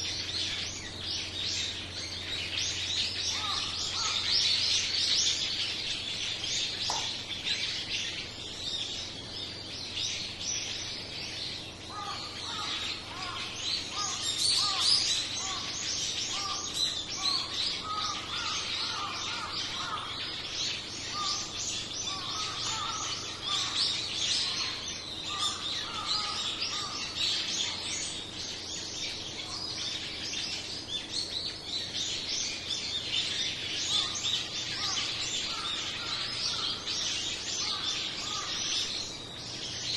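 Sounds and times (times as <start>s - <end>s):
flock of birds chirping: 0.0s - 39.9s
lower bird calls: 0.0s - 39.9s.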